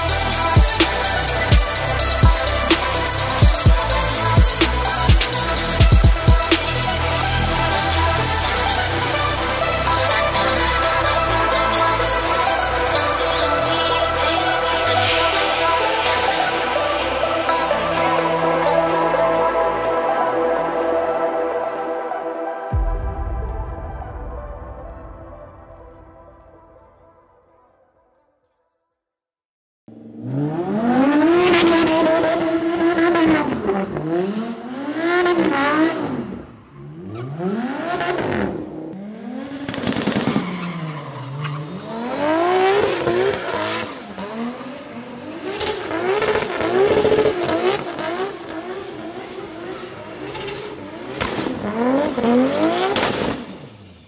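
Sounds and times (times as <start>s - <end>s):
sports car engine revving: 0.0s - 21.1s, 29.9s - 54.0s.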